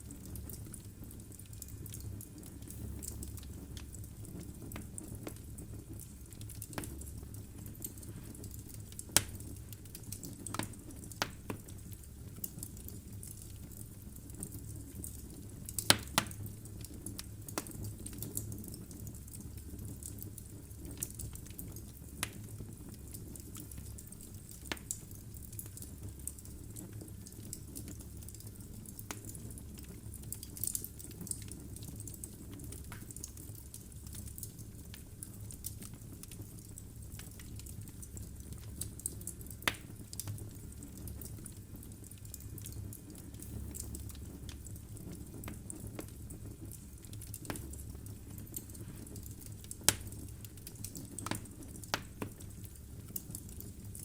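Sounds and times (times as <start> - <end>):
low rumble and hiss: 0.0 - 54.0
wood fire crackling and popping: 0.0 - 54.0.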